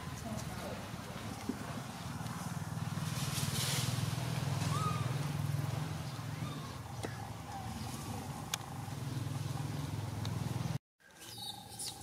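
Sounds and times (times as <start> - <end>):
vehicle engine hum: 0.0 - 10.8.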